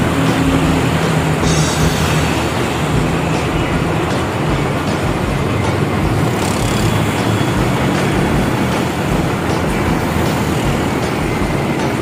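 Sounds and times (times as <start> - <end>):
concrete pump truck droning: 0.0 - 12.0.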